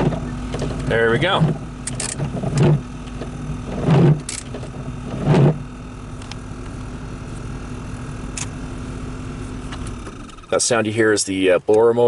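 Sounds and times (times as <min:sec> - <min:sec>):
blower motor droning: 0:00.0 - 0:12.0.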